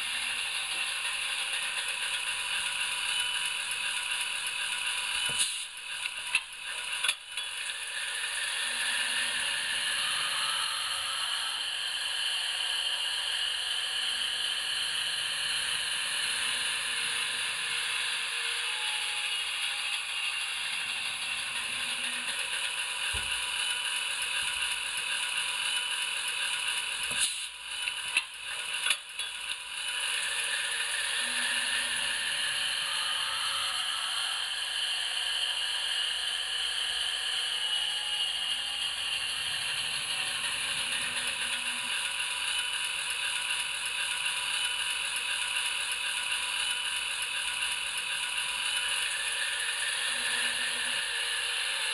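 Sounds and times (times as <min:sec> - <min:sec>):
model train running gear whir: 0:00.0 - 0:51.9.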